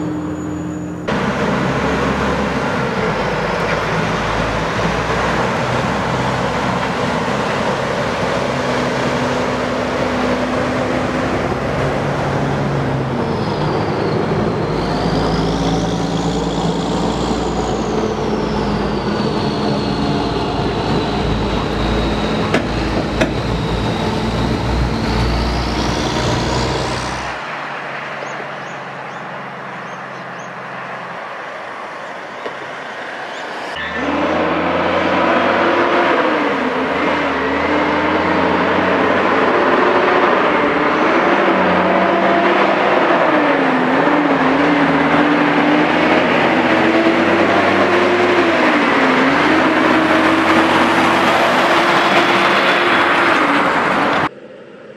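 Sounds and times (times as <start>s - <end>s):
diesel truck engines under load: 0.0s - 54.9s.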